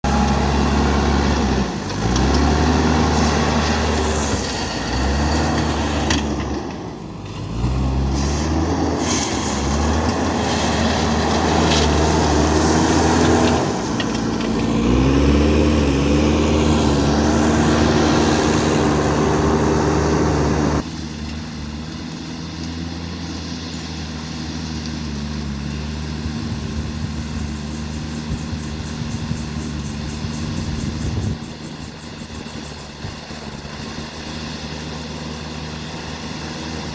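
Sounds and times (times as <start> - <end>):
diesel engine revving under load: 0.0 - 36.9.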